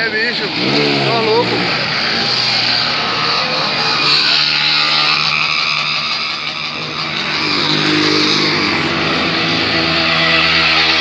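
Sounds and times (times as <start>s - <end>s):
motorcycle engines revving: 0.0s - 11.0s
steady rushing noise: 0.0s - 11.0s.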